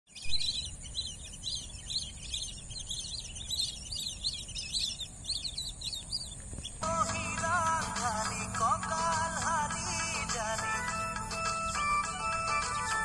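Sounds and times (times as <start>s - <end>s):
high insect hiss: 0.1s - 13.0s
wetland birds chirping: 0.1s - 13.0s.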